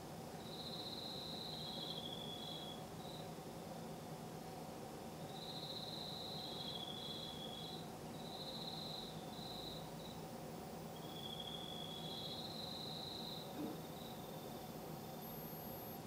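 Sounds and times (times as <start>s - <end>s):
faint low hum: 0.0s - 16.0s
crickets trilling: 0.4s - 3.3s, 5.2s - 16.0s.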